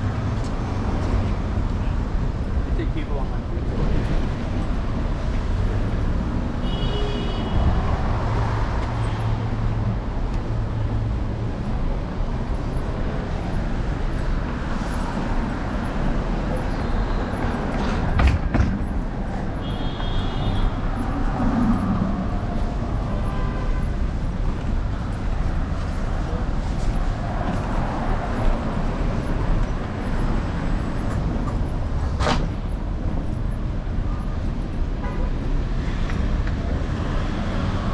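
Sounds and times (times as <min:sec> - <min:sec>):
road and wind rumble: 0:00.0 - 0:37.9.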